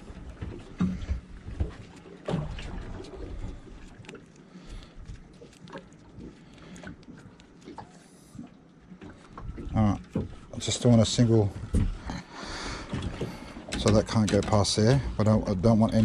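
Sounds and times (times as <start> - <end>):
low uneven rumble: 0.0 - 16.0.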